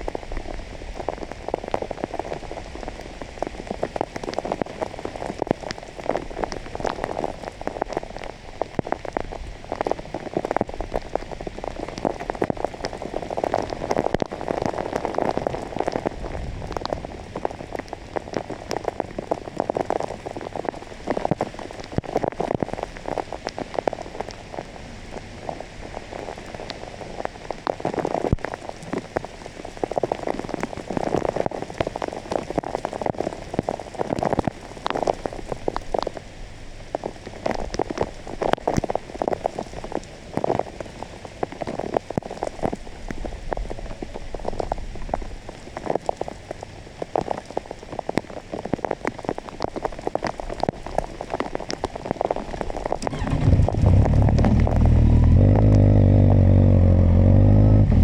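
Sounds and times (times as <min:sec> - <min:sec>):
heavy rain drops hitting close: 0:00.0 - 0:58.0.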